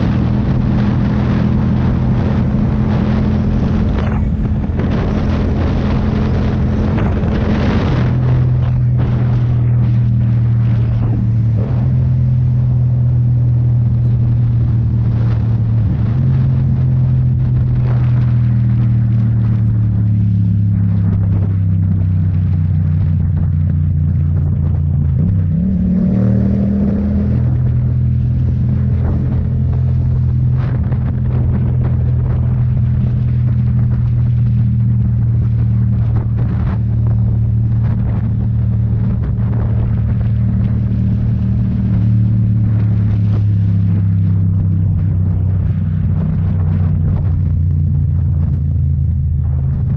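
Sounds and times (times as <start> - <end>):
motorcycle engine running: 0.0 - 49.9
wind rushing over microphone: 0.0 - 49.9.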